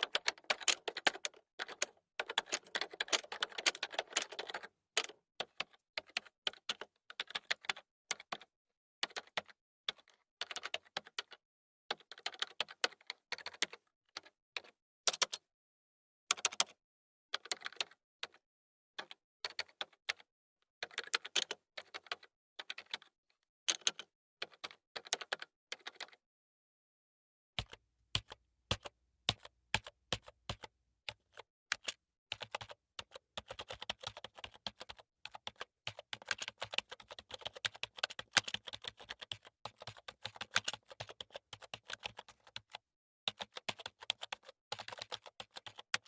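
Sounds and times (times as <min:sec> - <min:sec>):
typing on computer keyboard: 0:00.0 - 0:15.5, 0:16.3 - 0:16.8, 0:17.4 - 0:18.4, 0:19.0 - 0:26.2, 0:27.6 - 0:46.0.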